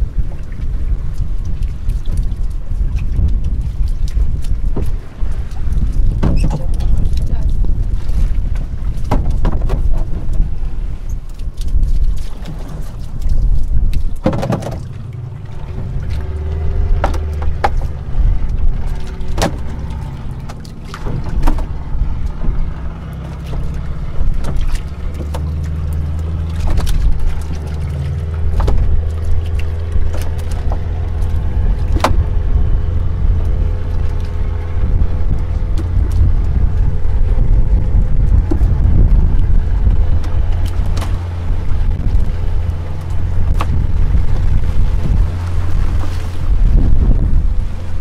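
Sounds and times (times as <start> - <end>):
boat engine rumbling: 0.0 - 48.0.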